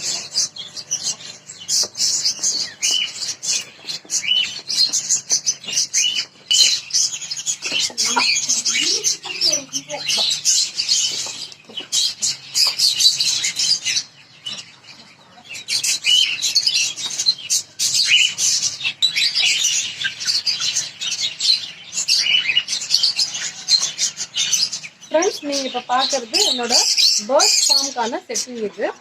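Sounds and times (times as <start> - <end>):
caged birds chirping and chattering: 0.0 - 29.0.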